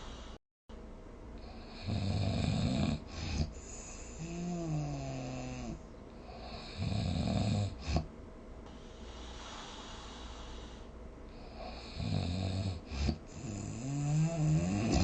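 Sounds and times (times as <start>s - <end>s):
person snoring: 1.4s - 8.1s, 9.1s - 15.0s.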